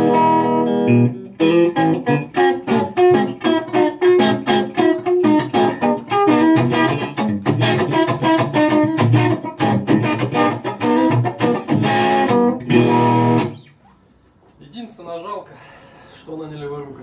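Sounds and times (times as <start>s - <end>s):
electric guitar picked notes: 0.0s - 13.7s.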